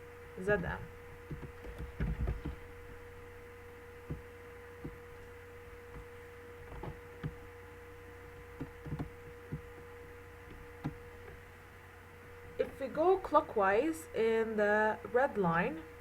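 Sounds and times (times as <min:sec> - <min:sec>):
faint constant tone: 0:00.0 - 0:16.0
low electrical hum: 0:00.0 - 0:16.0.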